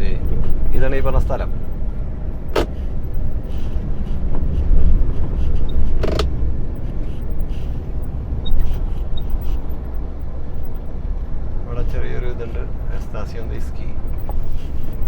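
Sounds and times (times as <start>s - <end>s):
lorry engine and road rumble: 0.0s - 15.0s.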